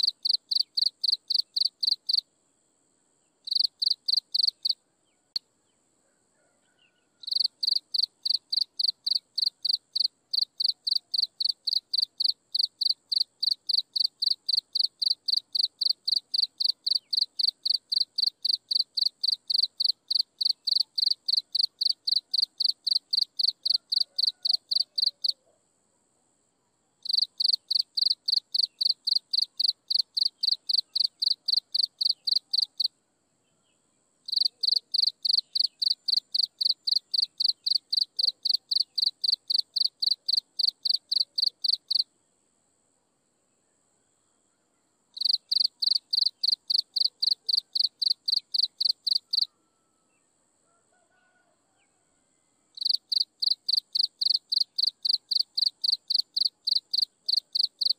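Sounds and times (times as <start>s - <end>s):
insect chirping: 0.0s - 5.8s, 6.7s - 33.0s, 33.7s - 50.2s, 52.6s - 57.9s.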